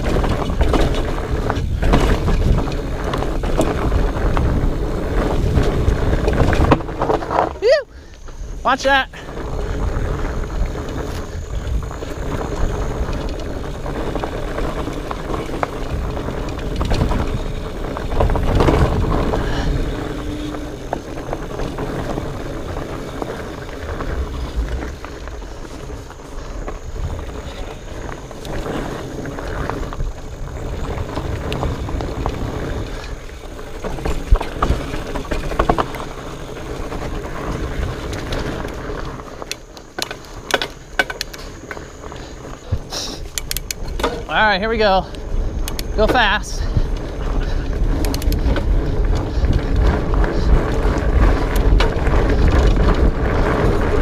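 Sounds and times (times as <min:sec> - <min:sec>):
bike knocking and rattling: 0:00.0 - 0:54.0
bike tyres rumbling over rocks: 0:00.0 - 0:54.0.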